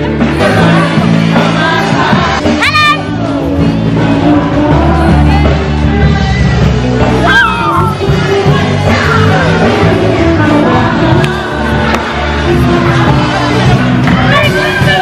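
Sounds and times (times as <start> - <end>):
song with singing and bass: 0.0 - 15.0.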